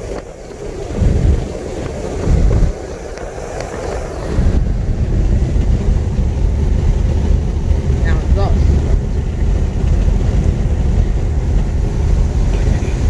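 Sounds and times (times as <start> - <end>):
tyre and engine road rumble: 0.0 - 13.0
wind buffeting microphone: 0.0 - 13.0.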